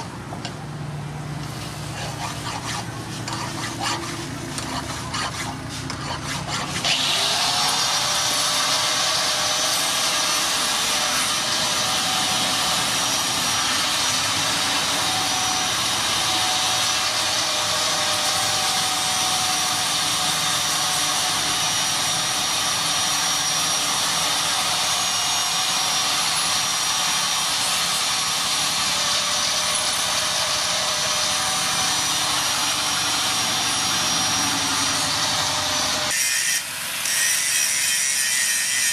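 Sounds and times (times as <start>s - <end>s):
angle grinder whining: 1.4s - 38.9s.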